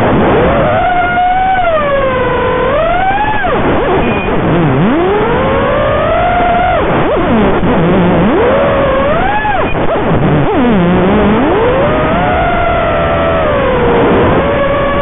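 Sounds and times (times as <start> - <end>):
quadcopter motors whining: 0.2 - 15.0.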